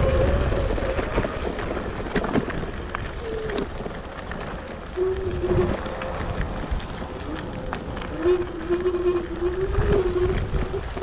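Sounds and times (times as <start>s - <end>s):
tyre and wind noise: 0.0s - 11.0s.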